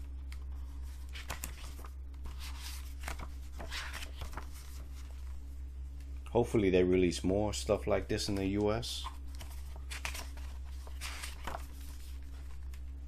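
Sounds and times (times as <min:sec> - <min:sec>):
steady low hum: 0:00.0 - 0:13.0
book pages rustling: 0:00.2 - 0:06.0, 0:08.3 - 0:13.0.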